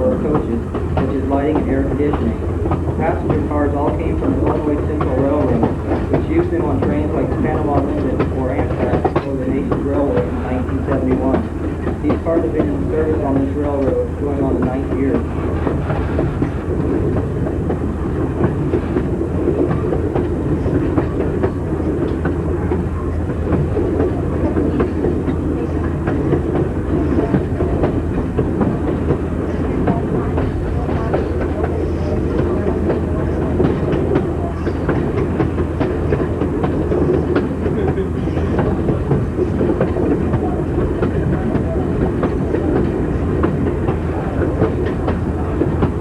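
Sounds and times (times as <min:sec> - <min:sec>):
train coach rumbling: 0:00.0 - 0:46.0.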